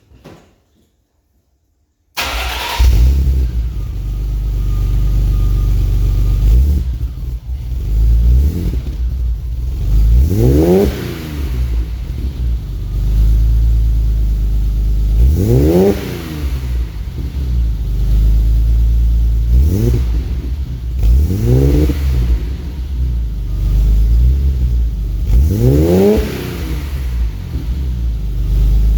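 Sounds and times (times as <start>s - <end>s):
car engine idling and revving: 2.2s - 28.9s.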